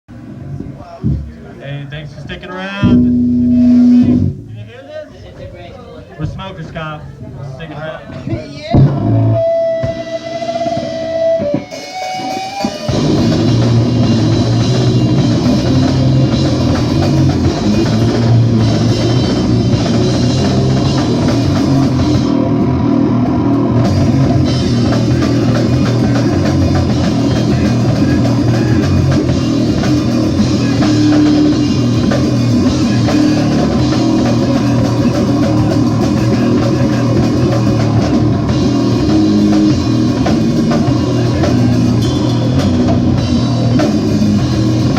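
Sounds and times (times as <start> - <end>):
held guitar notes: 0.2 - 4.7, 8.1 - 44.9
rock band playing live: 1.9 - 4.5, 8.4 - 44.9.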